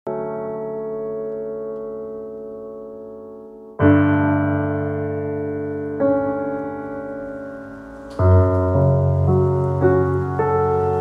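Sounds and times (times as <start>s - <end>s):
slow piano chords: 0.1s - 11.0s.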